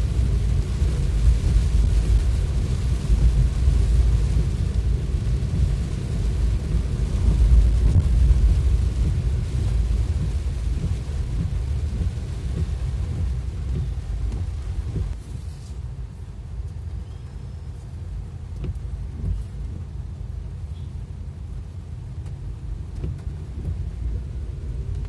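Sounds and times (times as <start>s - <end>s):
rain and spray hissing: 0.0s - 25.0s
vehicle engine and road rumble: 0.0s - 25.0s.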